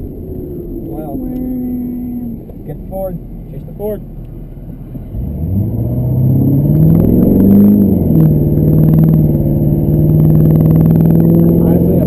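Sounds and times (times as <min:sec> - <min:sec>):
diesel pickup engine accelerating: 0:00.0 - 0:12.0.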